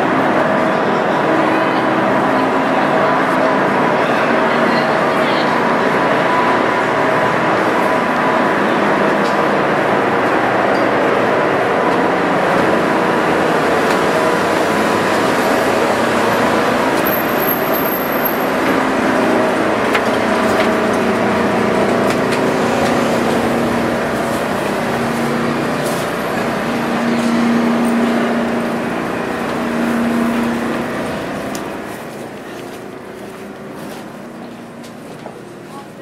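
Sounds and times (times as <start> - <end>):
ship engines droning: 0.0 - 36.0.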